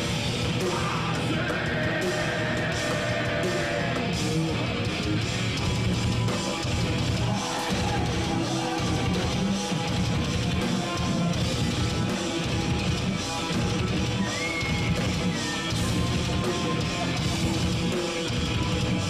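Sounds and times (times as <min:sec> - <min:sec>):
heavy metal band playing live: 0:00.0 - 0:19.0.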